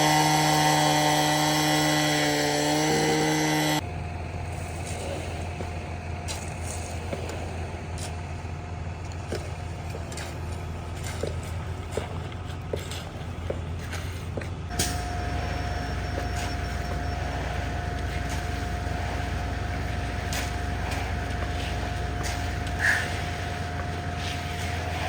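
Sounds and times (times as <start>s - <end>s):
engine running with thin whine: 0.0s - 25.0s.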